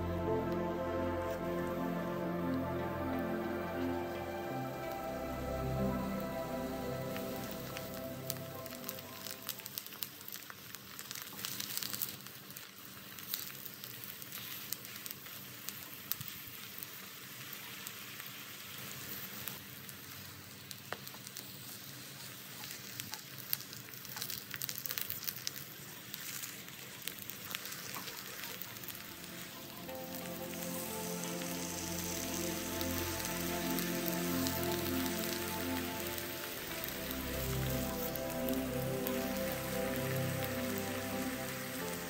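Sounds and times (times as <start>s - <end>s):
sharp oil crackles: 0.0s - 42.0s
eggplant frying in hot oil: 6.1s - 42.0s.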